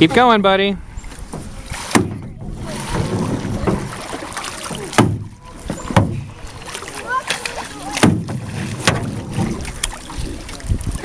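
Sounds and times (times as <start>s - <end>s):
water swishing: 0.0s - 11.0s
paddle knocking against hull: 1.0s - 11.0s.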